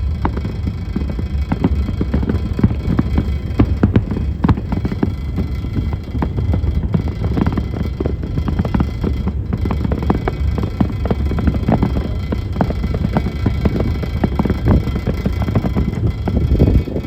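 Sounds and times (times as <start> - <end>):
fireworks bangs and crackles: 0.0 - 17.0
steady low rumble: 0.0 - 17.0.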